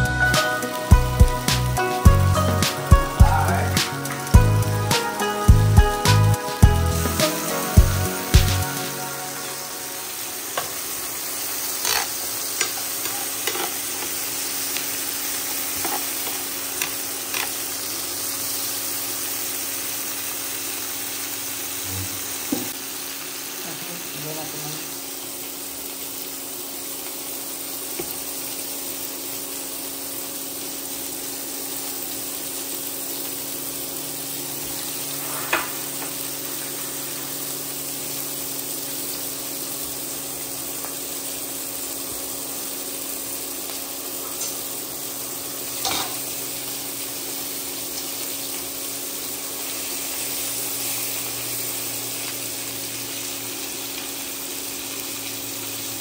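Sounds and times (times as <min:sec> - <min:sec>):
meat sizzling in a pan: 0:00.0 - 0:56.0.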